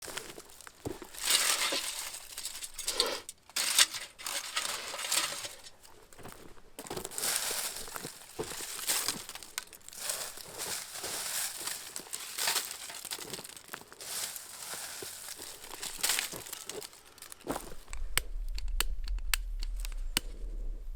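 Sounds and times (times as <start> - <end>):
dry leaves and twigs crunching: 0.0 - 18.6.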